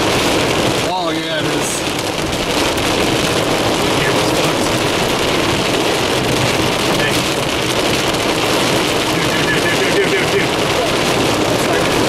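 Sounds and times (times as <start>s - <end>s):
rain on car windshield and roof: 0.0s - 12.0s
wind noise: 0.0s - 12.0s.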